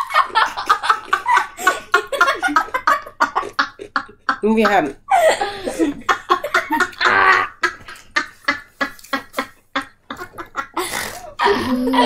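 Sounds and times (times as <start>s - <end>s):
children giggling and laughing: 0.0s - 12.0s.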